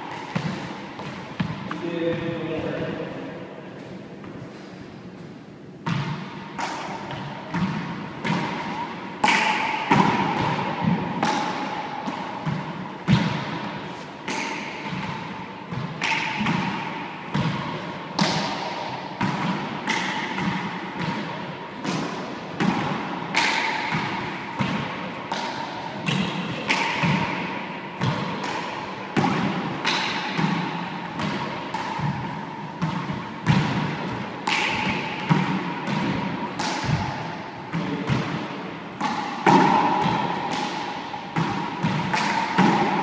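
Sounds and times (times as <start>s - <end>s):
rubber ball smacks with echo: 0.0s - 2.8s, 5.8s - 43.0s.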